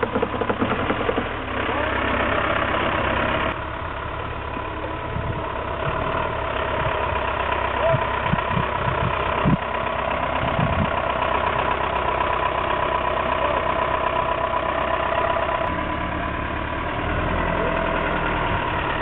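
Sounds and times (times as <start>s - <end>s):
jeep engine running at low revs: 0.0s - 19.0s.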